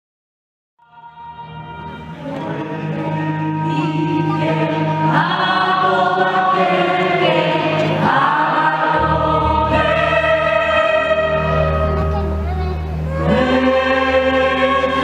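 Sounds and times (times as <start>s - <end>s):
choir singing held chords: 0.8s - 15.0s
sustained bass line: 1.4s - 15.0s.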